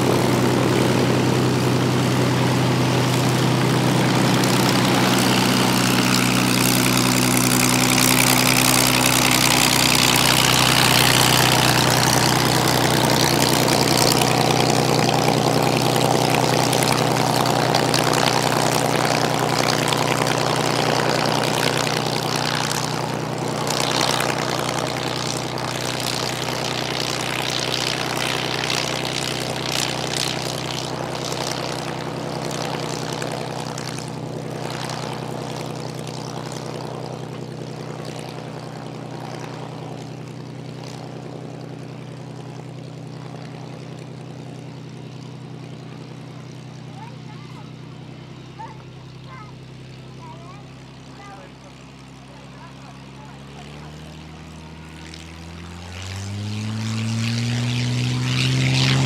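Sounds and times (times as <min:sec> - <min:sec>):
propeller aircraft engine drone: 0:00.0 - 0:59.0.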